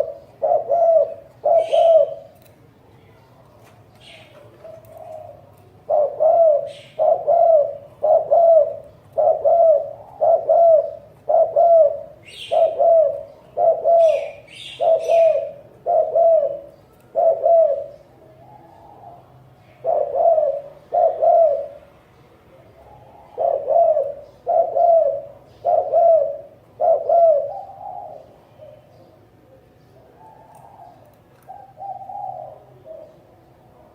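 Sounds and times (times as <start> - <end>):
dove cooing: 0.0 - 2.5, 4.0 - 21.9, 22.5 - 33.9.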